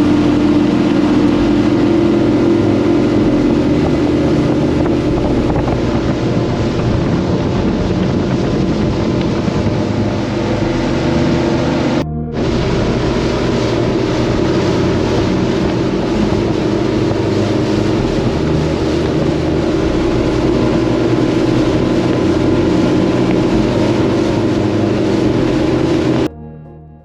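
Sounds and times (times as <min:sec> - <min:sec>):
speedboat engine humming: 0:00.0 - 0:26.9.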